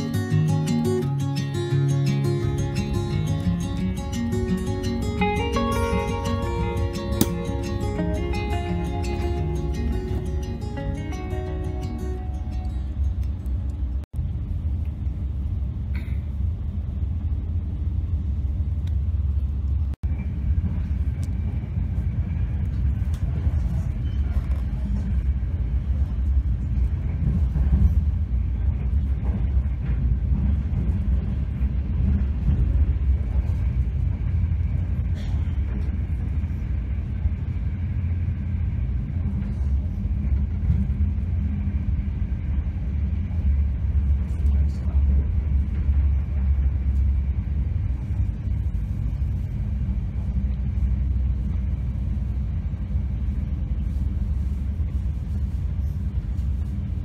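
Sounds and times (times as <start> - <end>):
vehicle rumbling in motion: 0.0 - 57.0.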